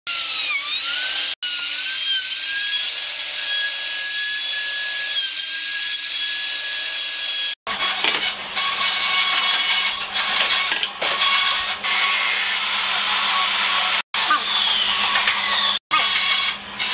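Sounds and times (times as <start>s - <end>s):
router whining cutting wood: 0.1s - 16.9s.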